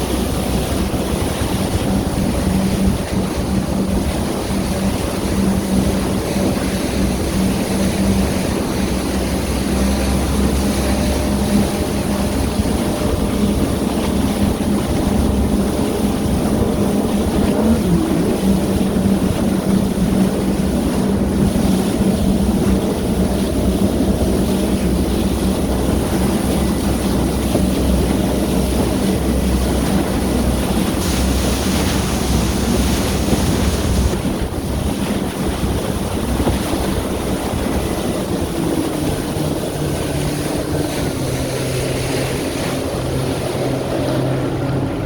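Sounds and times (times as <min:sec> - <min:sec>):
jet ski engine running: 0:00.0 - 0:45.0
rush of wind and water: 0:00.0 - 0:45.0.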